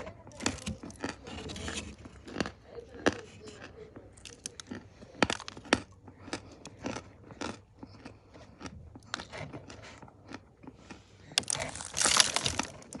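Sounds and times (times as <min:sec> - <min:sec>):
clay crunching when chewed: 0:00.0 - 0:13.0.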